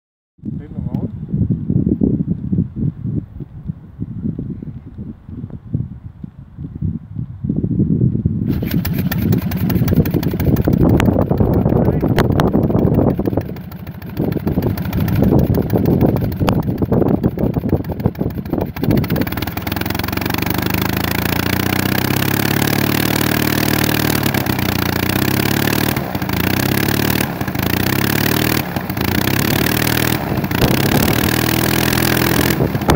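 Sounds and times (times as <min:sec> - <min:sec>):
propeller aircraft engine running: 0:00.6 - 0:32.9.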